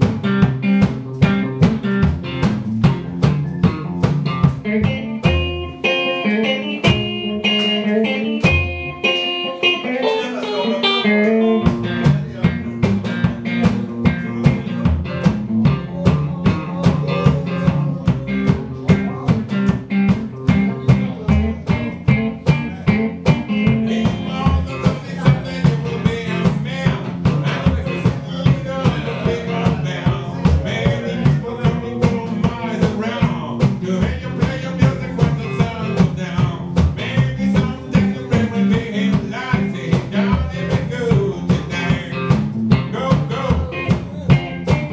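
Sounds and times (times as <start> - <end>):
electric guitar playing: 0.0 - 44.9
plucked washtub bass: 0.0 - 44.9
steady beat: 0.0 - 44.9.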